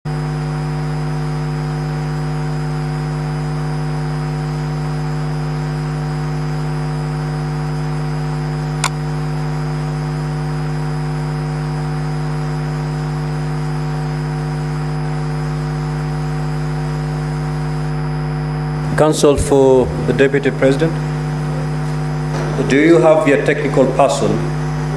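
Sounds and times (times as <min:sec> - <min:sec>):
loud electrical hum: 0:00.1 - 0:24.9.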